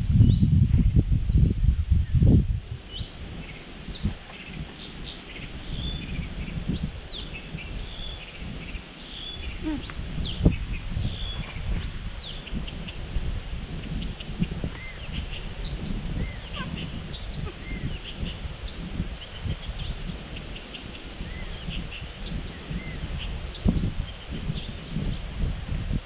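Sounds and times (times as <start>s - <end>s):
small birds chirping and whistling: 1.3s - 13.1s, 13.8s - 25.2s.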